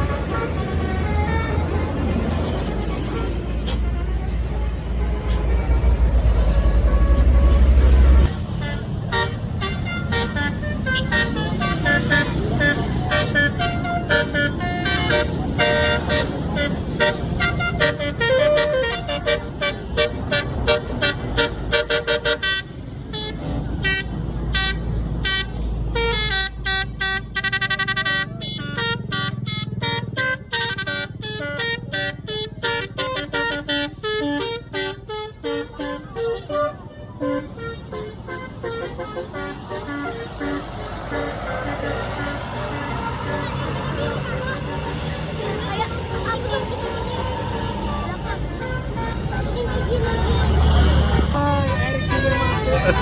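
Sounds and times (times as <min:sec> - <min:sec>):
bus engine rumble: 0:00.0 - 0:53.0
bus horn playing a melody: 0:00.0 - 0:53.0.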